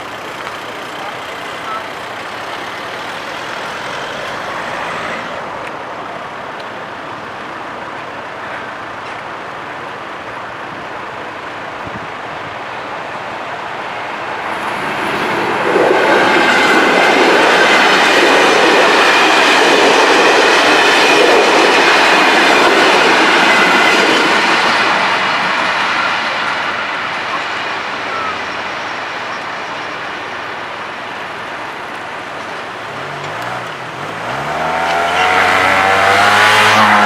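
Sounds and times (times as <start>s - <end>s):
train wheels rattling on rails: 0.0s - 37.0s.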